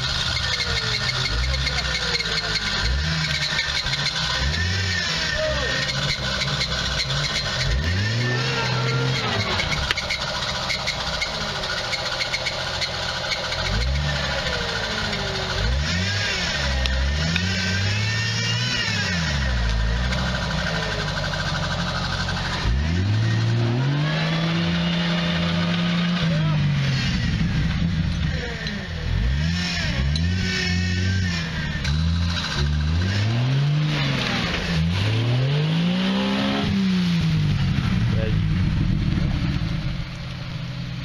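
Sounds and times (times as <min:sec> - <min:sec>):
vehicle engine revving: 0:00.0 - 0:41.0.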